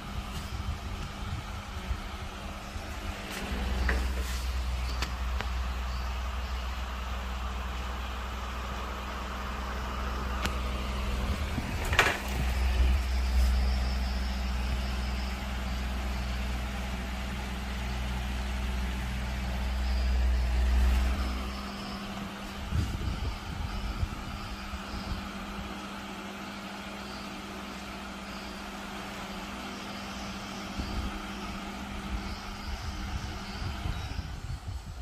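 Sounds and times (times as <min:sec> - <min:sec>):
wall fan running: 0:00.0 - 0:35.0.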